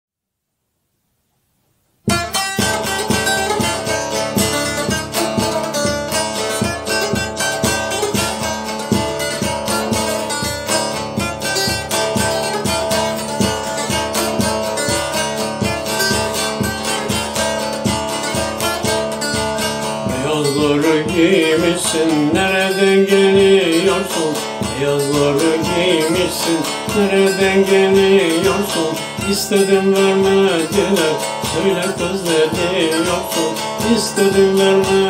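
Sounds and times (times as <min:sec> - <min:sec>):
plucked string instrument: 0:02.0 - 0:35.0.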